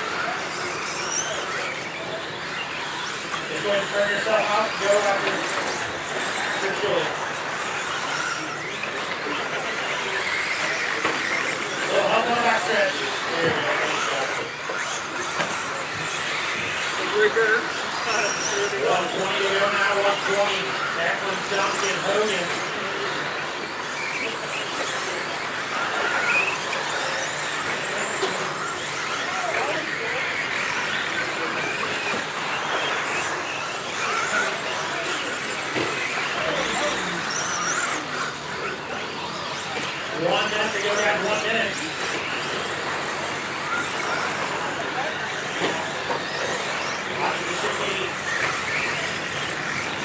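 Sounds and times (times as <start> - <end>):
rc truck motor whine: 0.0 - 50.0
tyre and track noise: 0.0 - 50.0.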